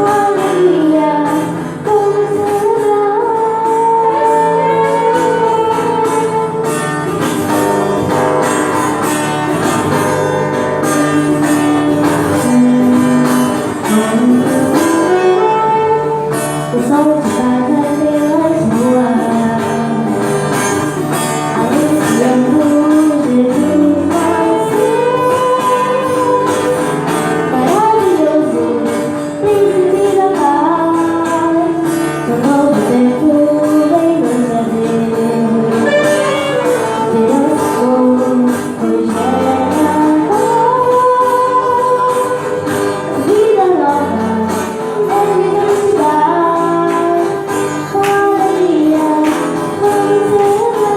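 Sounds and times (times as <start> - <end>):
instrumental accompaniment: 0.0 - 50.9
woman singing: 0.0 - 50.9.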